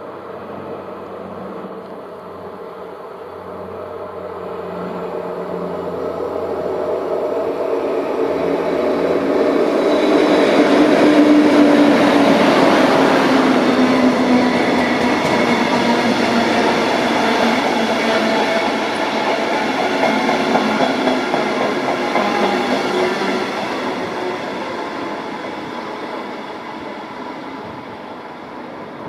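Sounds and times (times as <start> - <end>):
coach wheels rumbling on rails: 0.0 - 29.0
electric locomotive passing: 0.0 - 29.0.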